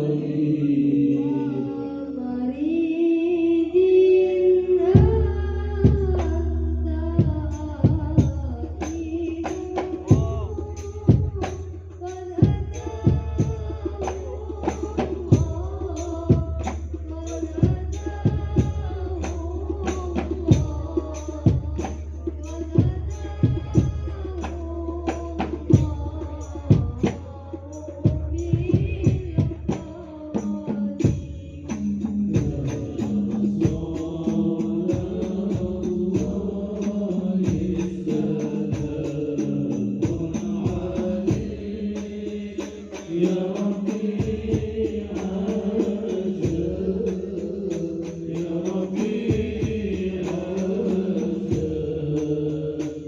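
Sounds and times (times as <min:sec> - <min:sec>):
man singing devotional melody: 0:00.0 - 0:53.0
frame drum strikes: 0:05.0 - 0:24.6, 0:28.1 - 0:47.0, 0:47.7 - 0:53.0.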